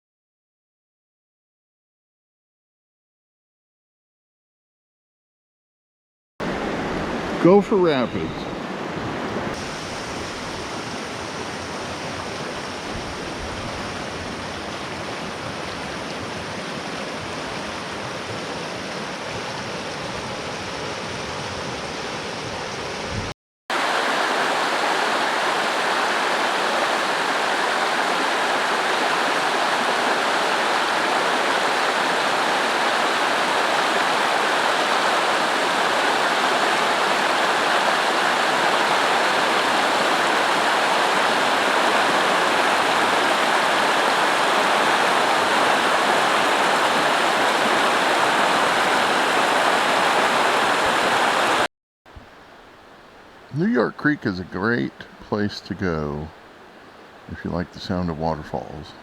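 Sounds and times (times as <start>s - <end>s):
creek water rushing over rapids: 6.4s - 23.1s, 23.7s - 59.0s.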